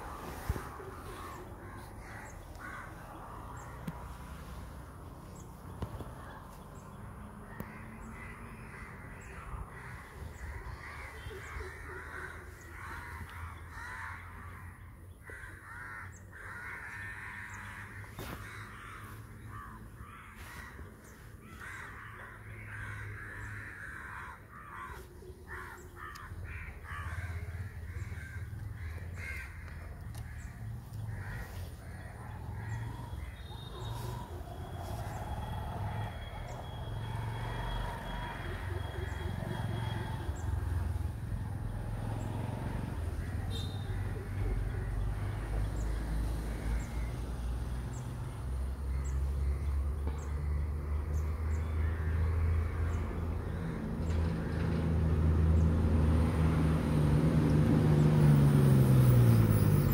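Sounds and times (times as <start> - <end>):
birds harsh repeated calls: 0.0 - 59.9.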